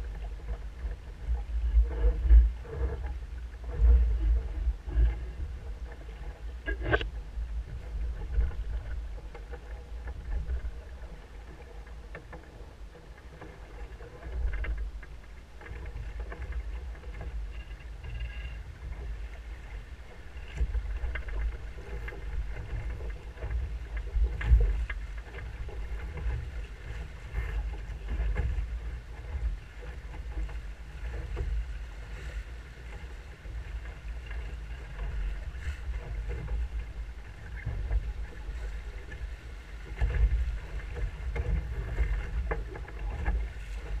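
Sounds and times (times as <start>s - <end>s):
water slapping along a hull: 0.0s - 44.0s
wind rumble on microphone: 0.0s - 44.0s.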